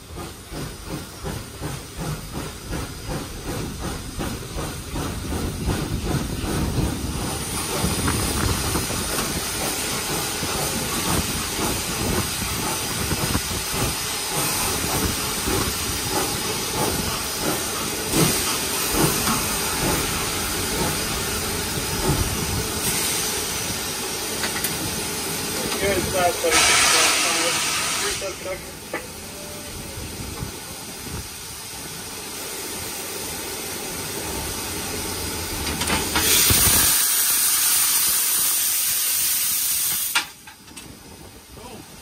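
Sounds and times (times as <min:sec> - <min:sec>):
steam locomotive exhaust chuffs: 0:00.0 - 0:41.3
steam hissing and running noise: 0:00.0 - 0:42.0.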